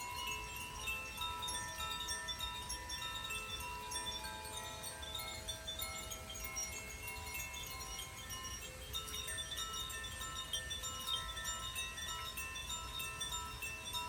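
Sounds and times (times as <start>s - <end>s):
wind chimes ringing: 0.0s - 14.0s.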